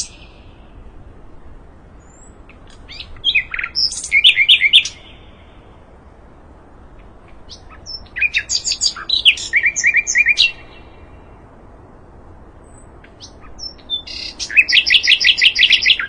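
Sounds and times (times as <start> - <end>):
songbird singing high chirps: 0.0 - 0.9, 2.0 - 6.2, 6.8 - 11.6, 12.6 - 16.0.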